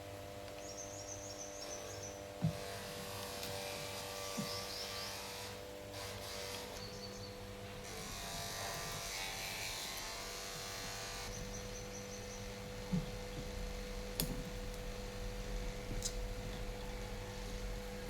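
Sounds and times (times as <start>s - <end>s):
electrical hum and buzz: 0.0s - 18.0s.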